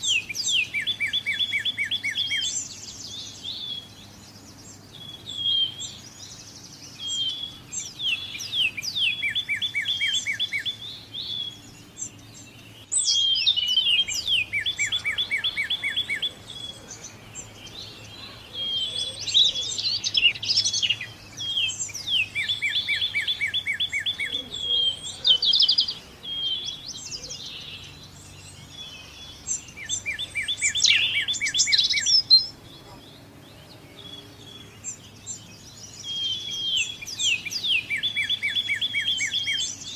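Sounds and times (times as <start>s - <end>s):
faint background hum: 0.0s - 39.9s
songbird singing trills: 0.0s - 39.9s.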